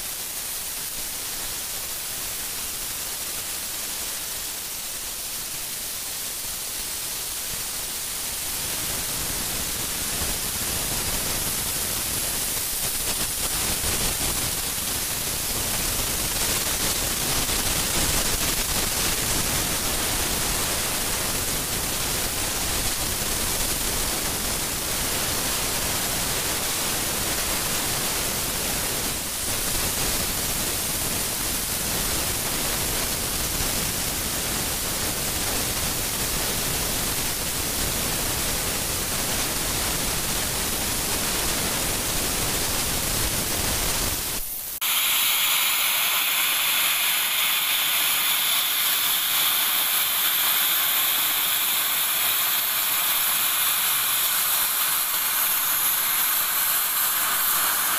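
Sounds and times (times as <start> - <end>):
plasma torch hissing: 0.0 - 30.8, 39.6 - 57.9
thin high cutting torch hiss: 0.0 - 57.9.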